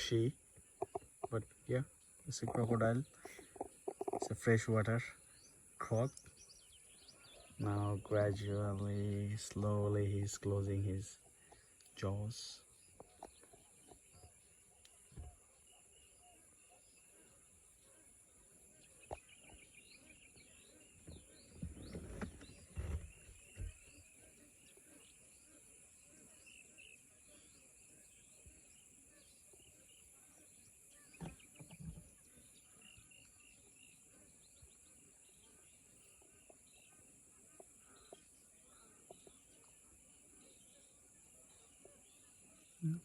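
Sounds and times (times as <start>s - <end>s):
small bird chirps: 0.0s - 10.5s, 11.1s - 43.0s.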